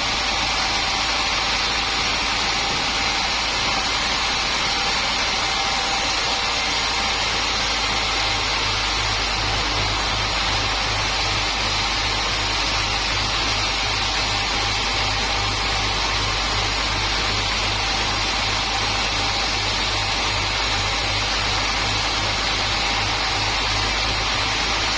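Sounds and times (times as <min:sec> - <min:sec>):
sawmill machinery hissing: 0:00.0 - 0:24.9.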